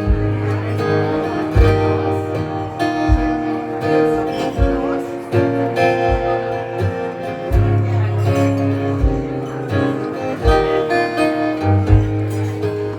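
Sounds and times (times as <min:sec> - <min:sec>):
acoustic guitar strumming: 0:00.0 - 0:12.9
low beat: 0:00.0 - 0:12.9.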